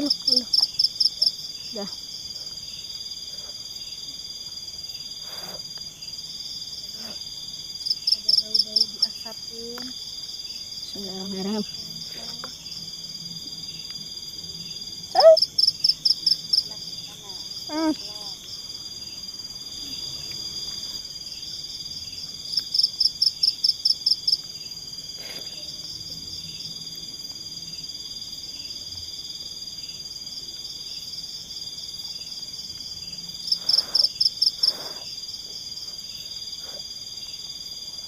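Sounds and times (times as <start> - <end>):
night insects trilling: 0.0 - 38.0
rapid pulsed insect calls: 0.0 - 38.0.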